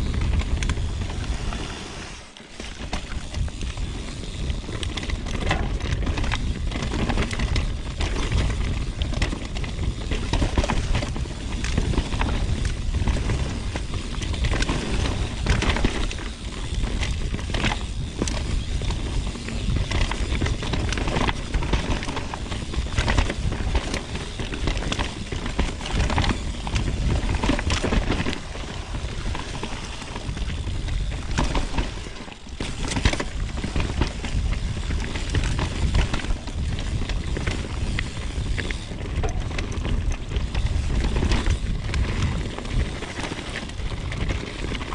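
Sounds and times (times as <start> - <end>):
bike tyres on dirt: 0.0 - 44.9
wind rumbling on microphone: 0.0 - 44.9
bike clattering over bumps: 2.5 - 44.9.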